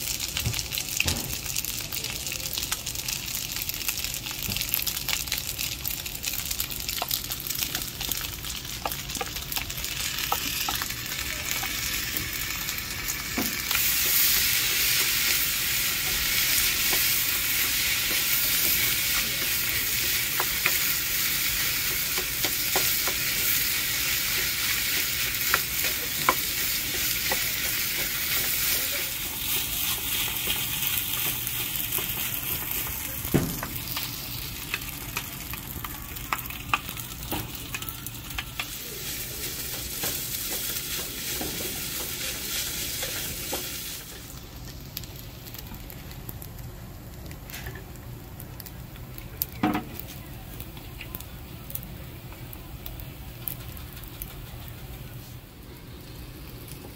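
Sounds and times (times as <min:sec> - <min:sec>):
food sizzling in a frying pan: 0:00.0 - 0:56.9.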